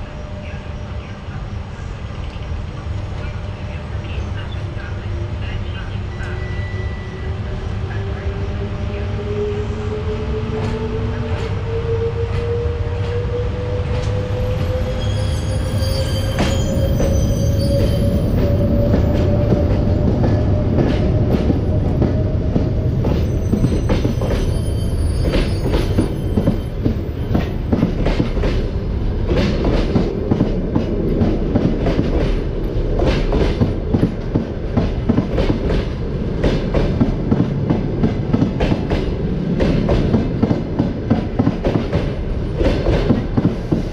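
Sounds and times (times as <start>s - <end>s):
electric locomotive whine: 0.0s - 43.9s.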